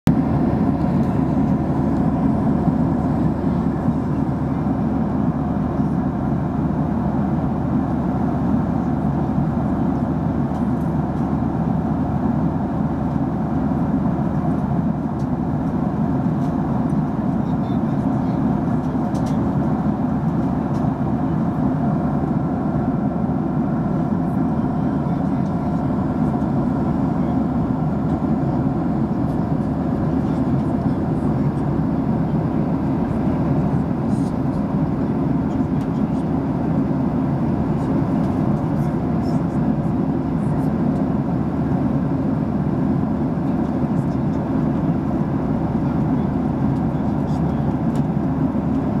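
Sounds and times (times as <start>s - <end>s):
airplane cabin engine drone: 0.1s - 49.0s.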